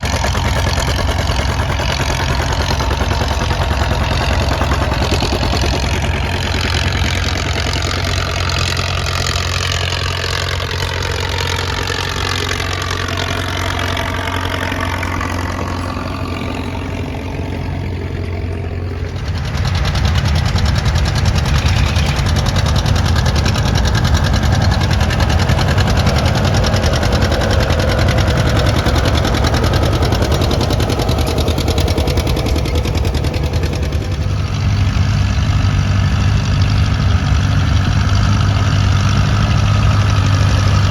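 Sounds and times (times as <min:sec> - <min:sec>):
deep loud engine: 0:00.0 - 0:40.9
tractor engines running: 0:00.0 - 0:40.9.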